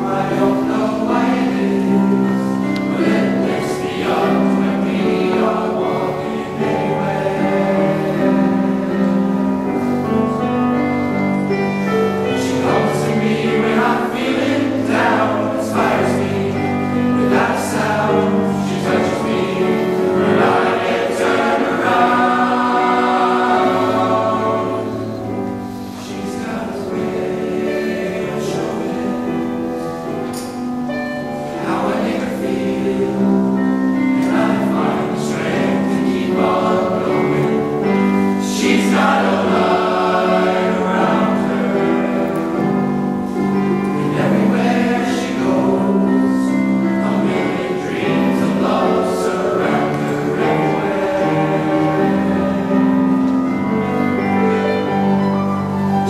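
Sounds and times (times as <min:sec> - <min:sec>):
boys' choir singing: 0:00.0 - 0:56.0.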